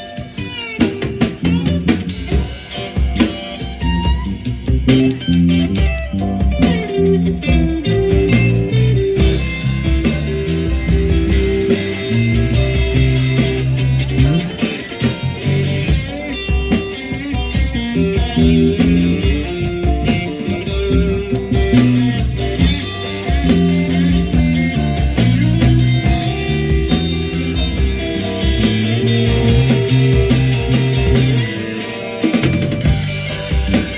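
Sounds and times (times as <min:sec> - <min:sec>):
bass guitar: 0:00.0 - 0:33.9
electric guitar: 0:00.0 - 0:33.9.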